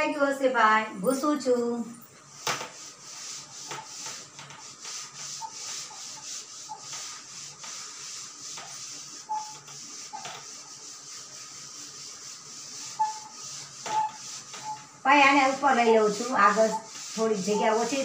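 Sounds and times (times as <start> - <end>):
cloth duster rubbing chalkboard: 2.2 - 18.0.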